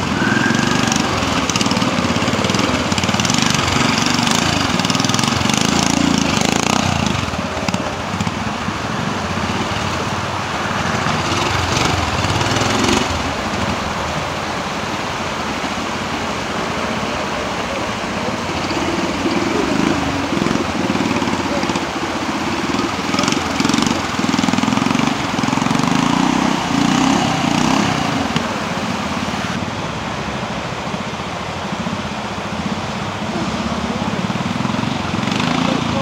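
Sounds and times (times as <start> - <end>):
motorcycle engine running: 0.0 - 36.0
rushing stream water: 0.0 - 36.0.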